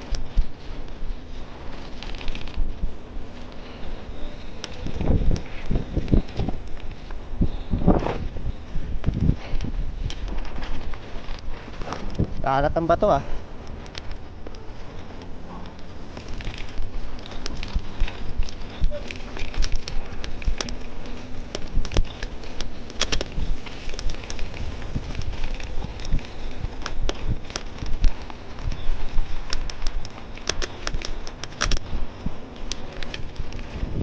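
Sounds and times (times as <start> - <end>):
bike rattling over stones: 0.0 - 34.0
wind rumbling on microphone: 0.0 - 34.0.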